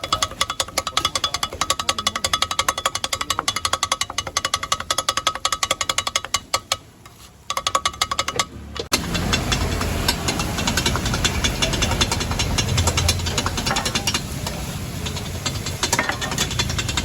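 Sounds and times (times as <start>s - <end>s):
steel spatulas clattering on griddle: 0.0s - 17.0s.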